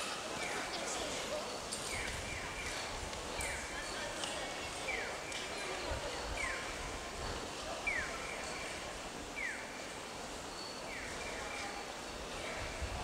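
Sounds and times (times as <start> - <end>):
faint voices: 0.0 - 13.0
street noise: 0.0 - 13.0.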